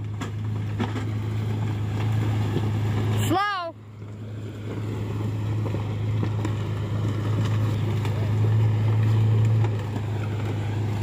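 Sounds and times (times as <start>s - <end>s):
pickup truck engine running: 0.0s - 11.0s
rough dragging rumble: 0.0s - 11.0s.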